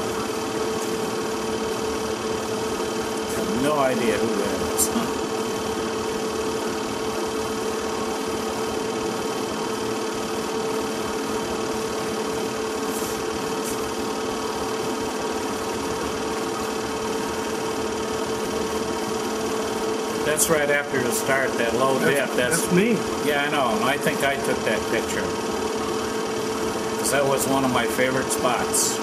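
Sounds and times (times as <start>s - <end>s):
film projector whirring: 0.0s - 29.0s.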